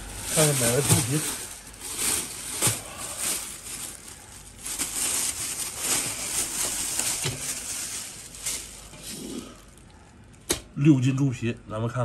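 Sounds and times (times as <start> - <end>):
plastic bag crinkling and rustling: 0.0 - 10.5.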